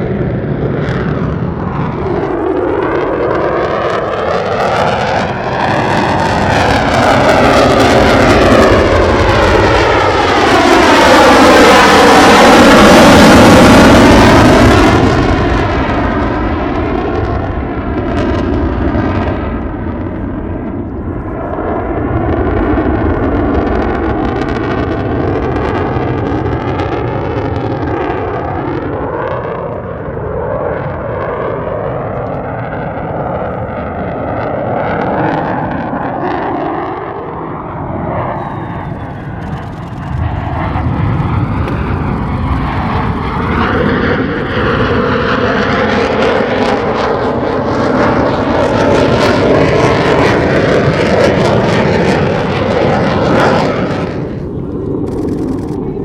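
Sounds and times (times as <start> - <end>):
jet engine roaring: 0.0 - 56.0.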